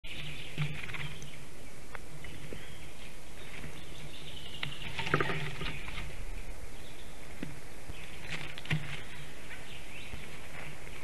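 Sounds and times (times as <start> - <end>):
songbirds chirping: 0.0 - 11.0
steady low hum: 0.0 - 11.0.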